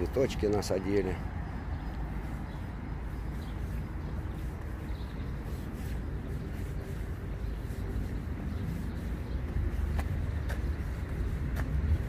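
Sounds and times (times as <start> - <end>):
city low rumble: 0.0 - 12.0.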